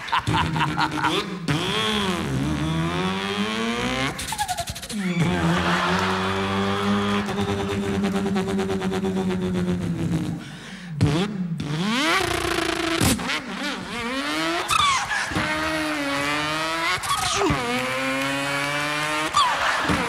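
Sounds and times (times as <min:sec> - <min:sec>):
man imitating car engine: 0:00.0 - 0:20.0.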